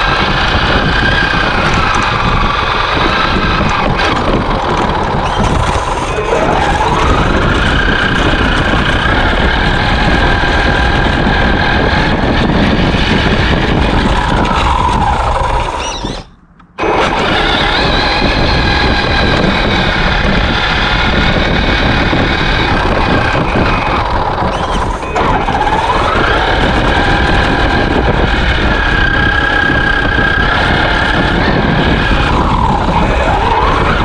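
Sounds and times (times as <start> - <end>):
chassis rumble and rattle: 0.0 - 34.0
electric motor whining: 0.0 - 34.0.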